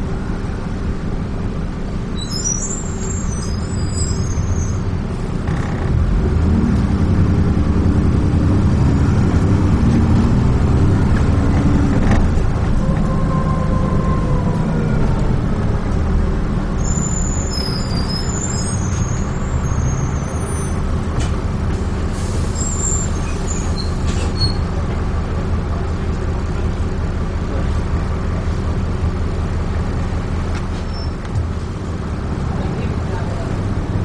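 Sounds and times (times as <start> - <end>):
bus diesel engine: 0.0 - 34.0
road noise: 0.0 - 34.0.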